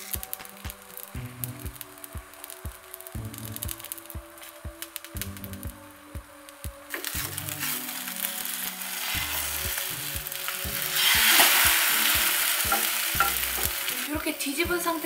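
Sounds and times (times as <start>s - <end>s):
omelette sizzling in frying pan: 0.0s - 15.0s.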